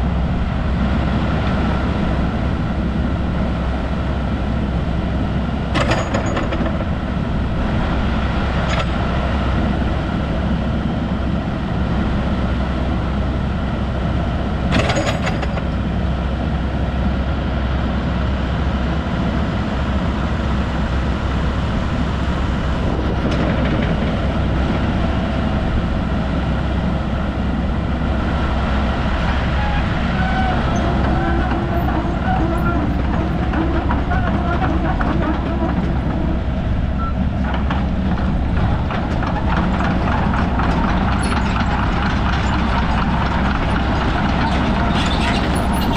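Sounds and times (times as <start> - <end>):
excavator diesel engine rumbling: 0.0 - 45.9.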